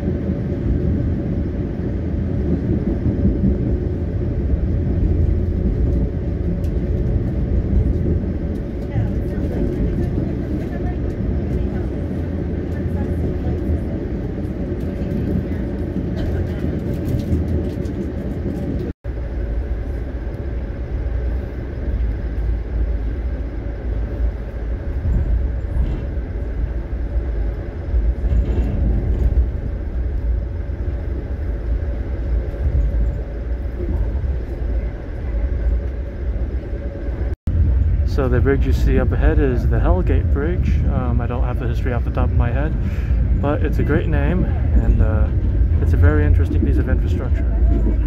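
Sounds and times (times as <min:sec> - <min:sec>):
train rumbling from inside coach: 0:00.0 - 0:48.0.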